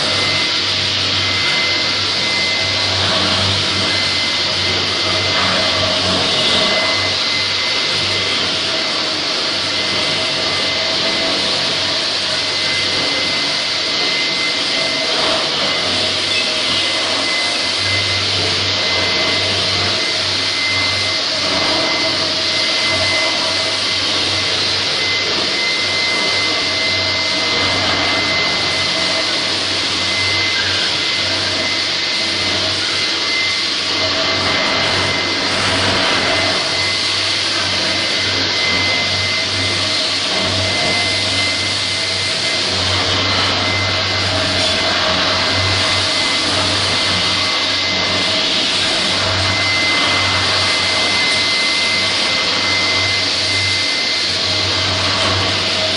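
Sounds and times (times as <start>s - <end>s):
dust vacuum rushing: 0.0s - 55.9s
floor grinder grinding concrete: 0.0s - 55.9s
steady high whine: 0.0s - 55.9s.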